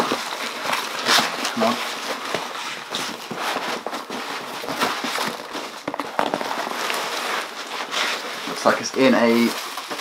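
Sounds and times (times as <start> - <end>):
packing peanuts rustling: 0.0 - 10.0.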